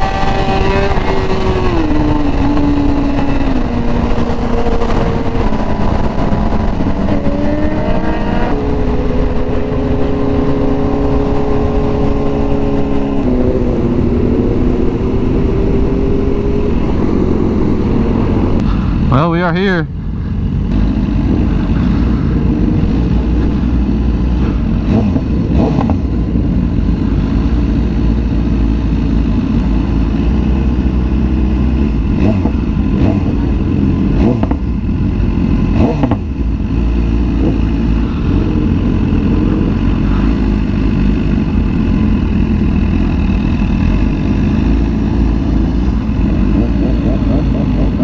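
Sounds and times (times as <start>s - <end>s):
heavy wind noise: 0.0s - 48.0s
motorcycle engine rumble: 0.0s - 48.0s.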